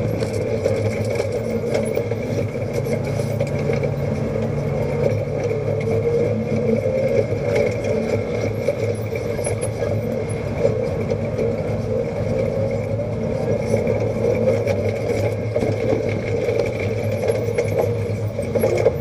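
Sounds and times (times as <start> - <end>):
light rattles and clicks: 0.0 - 19.0
vehicle engine running: 0.0 - 19.0.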